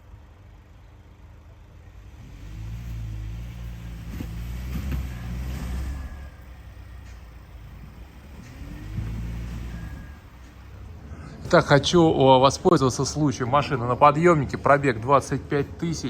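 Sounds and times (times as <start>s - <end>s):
car engine revving: 1.8s - 15.8s.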